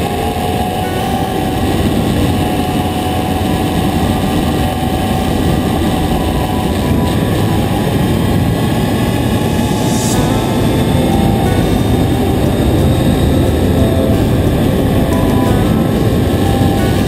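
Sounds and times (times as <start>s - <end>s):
wind rushing over microphone: 0.0s - 17.0s
motorcycle engine running: 1.6s - 17.0s.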